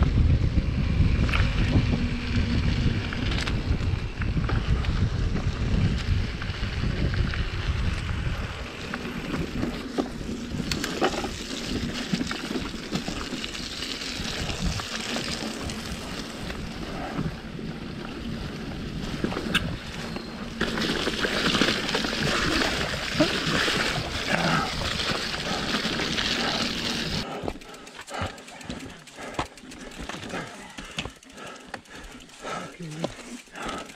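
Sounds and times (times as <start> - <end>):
wind buffeting microphone: 0.0 - 27.3.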